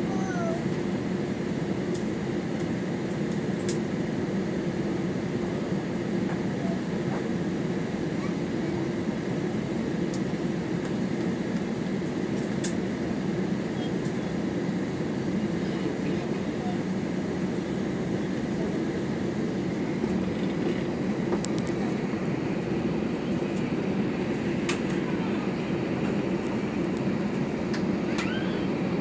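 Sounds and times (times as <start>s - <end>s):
jet airliner cabin hum: 0.0s - 29.0s.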